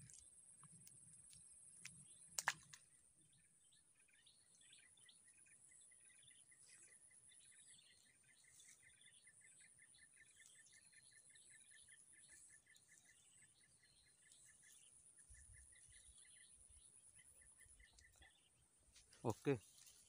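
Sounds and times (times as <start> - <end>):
faint chirps: 0.0 - 20.0.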